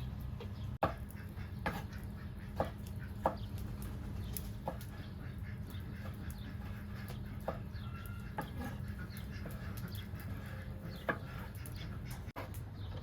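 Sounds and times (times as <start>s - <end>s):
chickens clucking: 0.3s - 13.0s.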